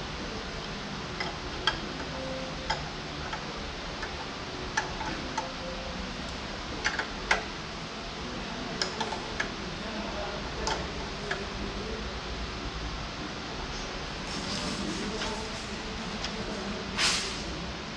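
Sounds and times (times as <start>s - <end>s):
shop fan hissing: 0.0s - 17.9s.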